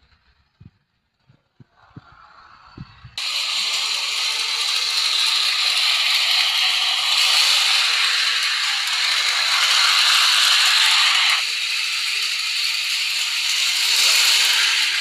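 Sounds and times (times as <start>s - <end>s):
toy train motor whirring: 1.6s - 15.0s.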